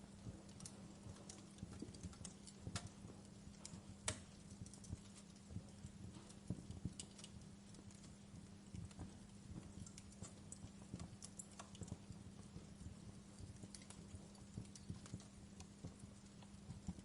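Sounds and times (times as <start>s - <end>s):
faint low hum: 0.0s - 17.0s
wood fire crackling: 0.0s - 17.0s.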